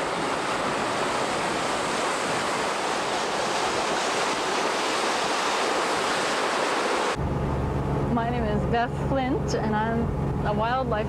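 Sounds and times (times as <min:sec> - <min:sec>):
seawater rushing along hull: 0:00.0 - 0:11.0.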